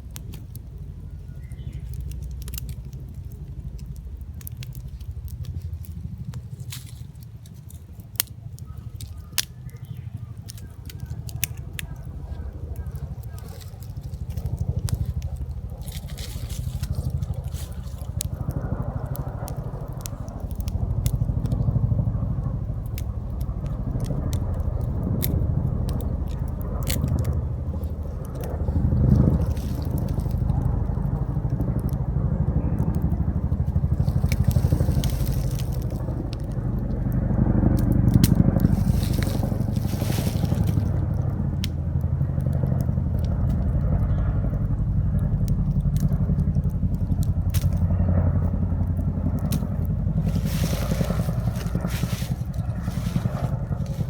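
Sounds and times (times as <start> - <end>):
steady low rumble: 0.0 - 54.0
wood fire crackling and popping: 0.0 - 54.0.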